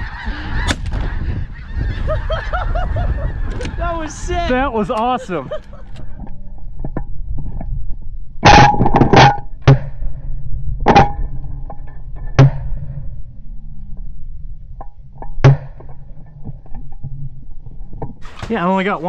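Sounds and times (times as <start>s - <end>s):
wind rumble on microphone: 0.0s - 4.8s, 5.5s - 18.3s.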